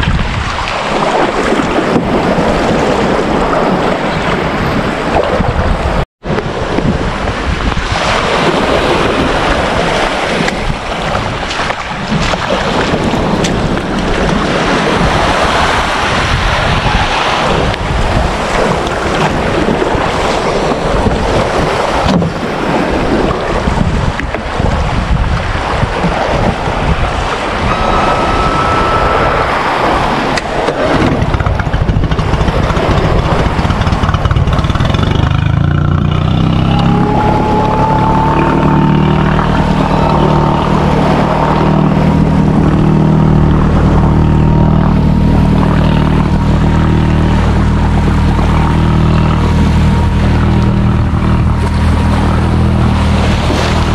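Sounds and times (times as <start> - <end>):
water slapping around boat: 0.0 - 53.9
wind buffeting microphone: 0.0 - 53.9.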